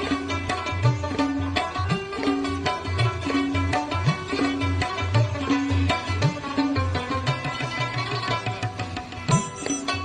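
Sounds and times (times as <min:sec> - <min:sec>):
plucked string instrument: 0:00.0 - 0:10.0.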